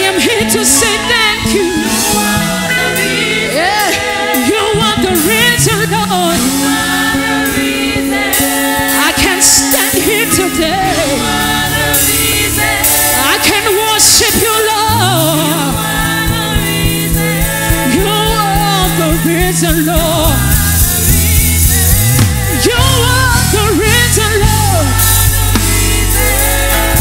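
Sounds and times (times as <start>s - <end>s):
gospel choir singing with band: 0.0s - 27.0s.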